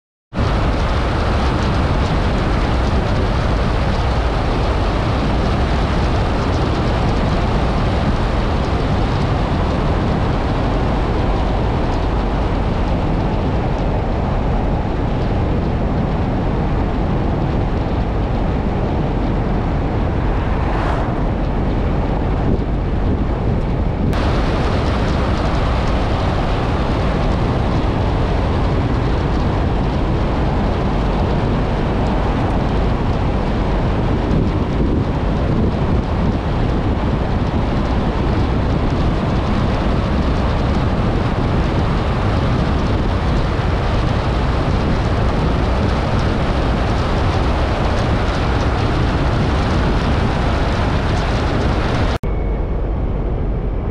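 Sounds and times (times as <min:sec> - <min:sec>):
tyre and road noise: 0:00.3 - 0:53.9
wind on microphone: 0:00.3 - 0:53.9.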